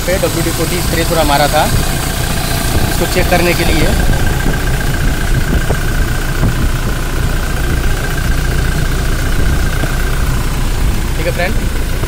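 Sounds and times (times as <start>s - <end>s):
diesel engine idling: 0.0s - 12.0s
thin constant whine: 0.0s - 12.0s.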